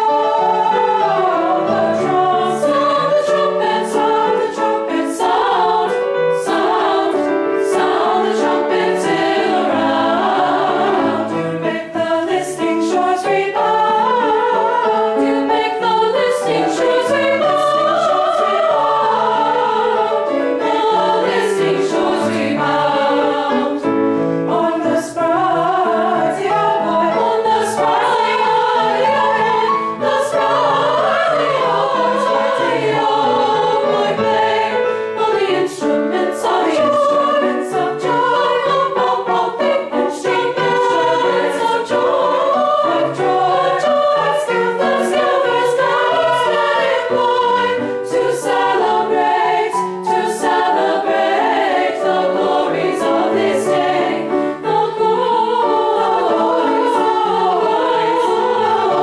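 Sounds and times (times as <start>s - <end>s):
women's choir singing in harmony: 0.0s - 59.0s.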